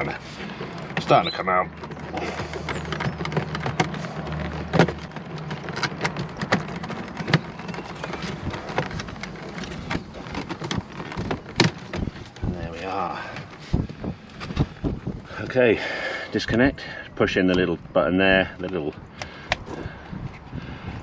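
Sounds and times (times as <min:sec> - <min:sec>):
plastic clicks creaks and scrapes: 0:00.0 - 0:15.7, 0:18.5 - 0:20.6.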